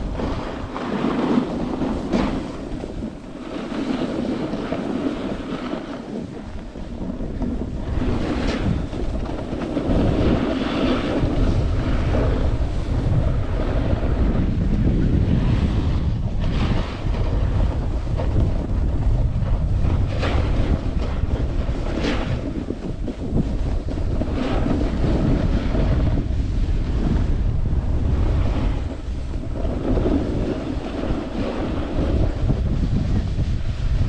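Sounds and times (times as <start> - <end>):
skis scraping over snow: 0.0 - 34.0
wind buffeting microphone: 0.0 - 34.0.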